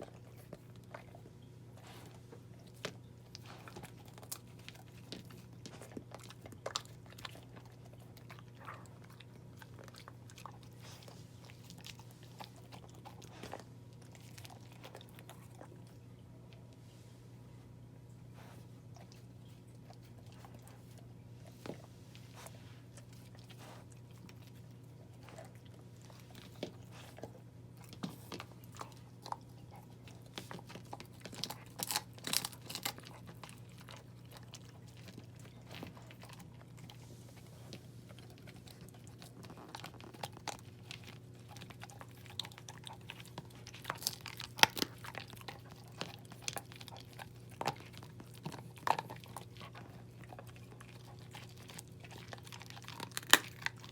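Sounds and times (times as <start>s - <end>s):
puppy chewing food: 0.0s - 53.9s.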